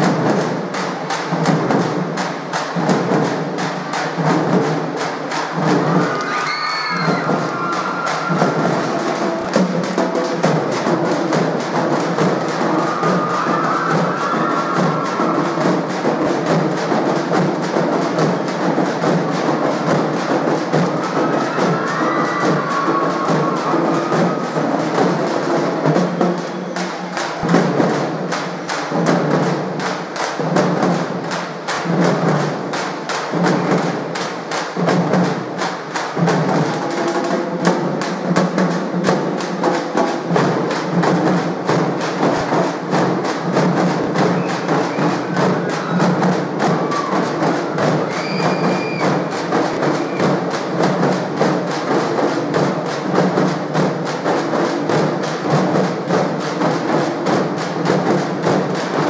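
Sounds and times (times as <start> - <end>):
rapid dense drumbeats: 0.0 - 59.0.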